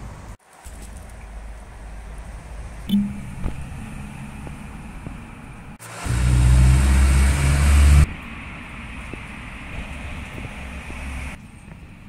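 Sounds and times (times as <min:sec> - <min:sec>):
loud low engine-like rumble: 0:01.4 - 0:12.0.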